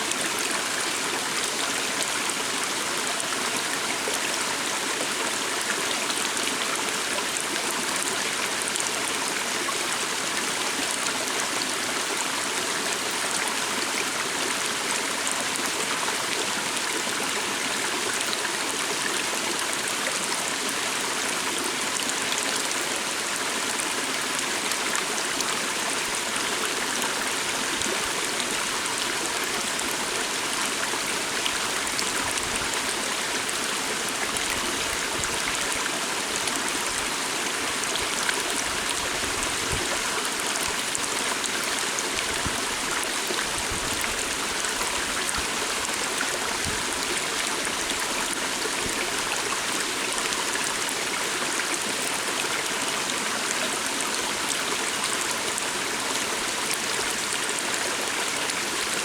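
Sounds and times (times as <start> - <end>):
water stream flowing: 0.0 - 59.0.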